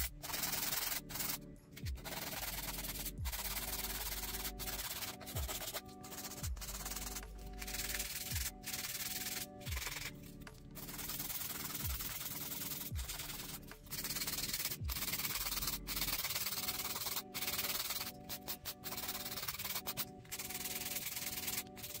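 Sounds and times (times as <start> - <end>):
nail file sanding: 0.0 - 22.0.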